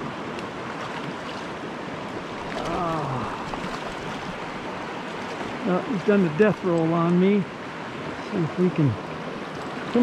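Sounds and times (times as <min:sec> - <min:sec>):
creek rushing over rocks: 0:00.0 - 0:10.0.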